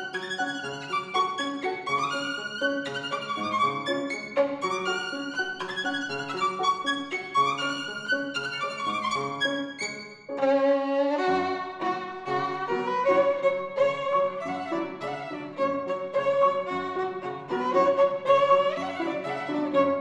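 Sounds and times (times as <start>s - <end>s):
grand piano: 0.0s - 20.0s
violin: 0.0s - 20.0s.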